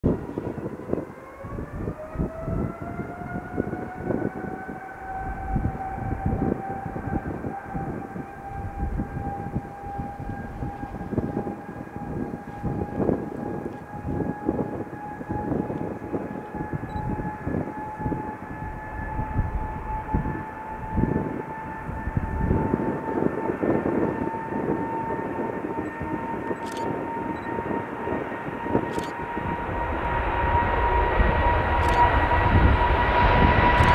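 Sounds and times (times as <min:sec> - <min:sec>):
low gusty rumble: 0:00.0 - 0:33.9
jet engines spooling up: 0:00.1 - 0:33.9.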